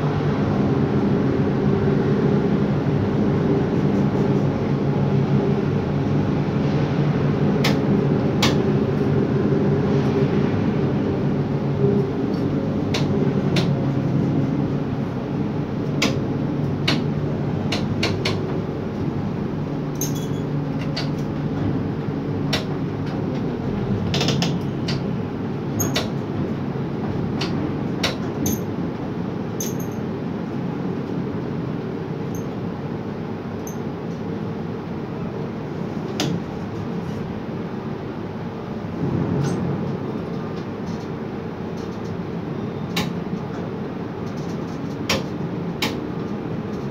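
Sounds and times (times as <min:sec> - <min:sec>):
overhead crane machinery drone: 0:00.0 - 0:46.9.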